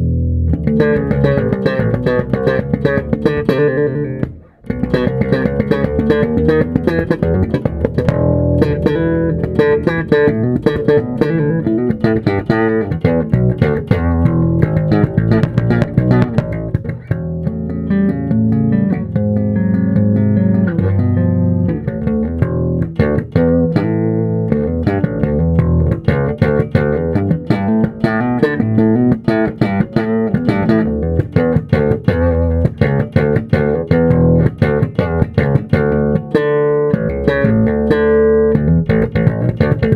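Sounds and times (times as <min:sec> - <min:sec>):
bass guitar plucked notes: 0:00.0 - 0:39.9.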